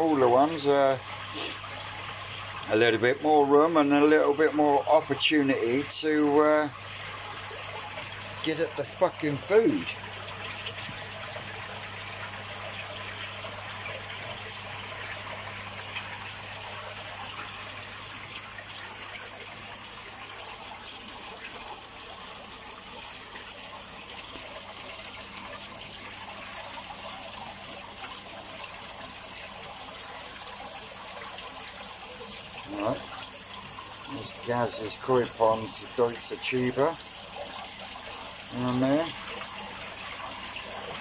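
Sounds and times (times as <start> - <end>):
running water rushing: 0.0 - 41.0.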